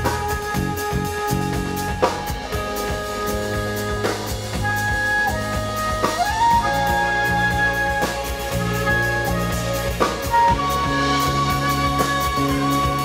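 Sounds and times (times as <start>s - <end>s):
drum kit: 0.0s - 13.0s
electric bass: 0.0s - 13.0s
flute melody: 0.0s - 13.0s
keyboards: 0.0s - 13.0s.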